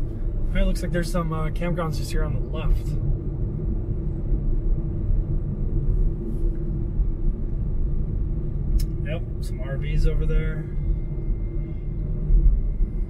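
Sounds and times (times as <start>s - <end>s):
road and tyre rumble: 0.0s - 13.0s.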